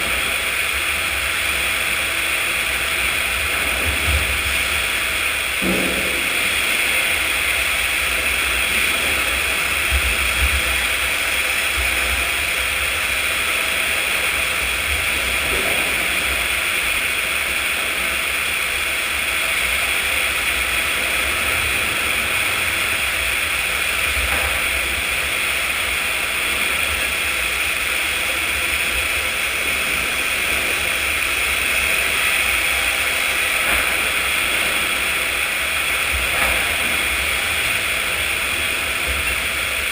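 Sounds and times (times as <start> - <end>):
low uneven rumble: 0.0 - 39.9
sawmill machinery running: 0.0 - 39.9.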